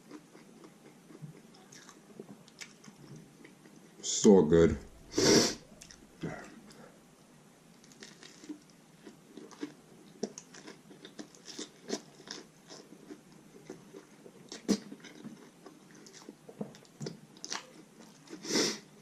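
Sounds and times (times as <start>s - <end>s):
chewing crunchy taco: 0.0s - 4.0s, 7.7s - 19.0s.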